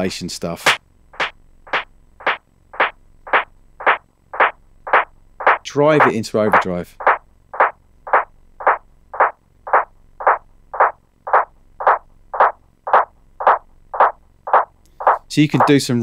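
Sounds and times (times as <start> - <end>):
repeating echo of short hit: 0.7 - 15.7.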